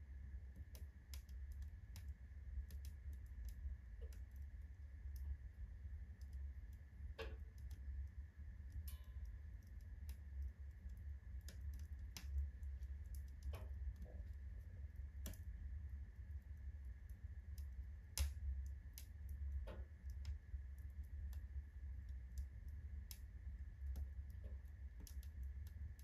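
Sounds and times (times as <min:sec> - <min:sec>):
low steady hum: 0:00.0 - 0:26.0
wood fire crackling: 0:00.1 - 0:26.0.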